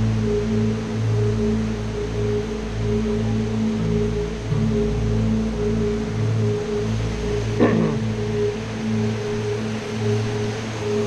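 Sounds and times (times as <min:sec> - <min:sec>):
slow ambient chords: 0:00.0 - 0:11.0.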